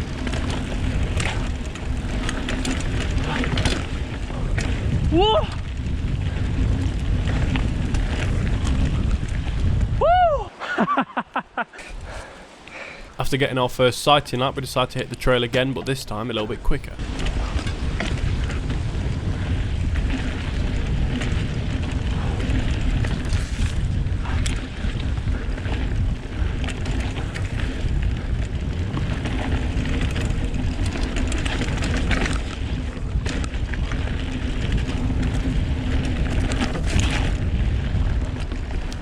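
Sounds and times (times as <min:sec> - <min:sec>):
bike knocks and rattles: 0:00.0 - 0:10.0, 0:17.0 - 0:39.0
tyre rumble on dirt trail: 0:00.0 - 0:10.3, 0:11.8 - 0:39.0
wind buffeting microphone: 0:00.0 - 0:11.0, 0:11.7 - 0:39.0.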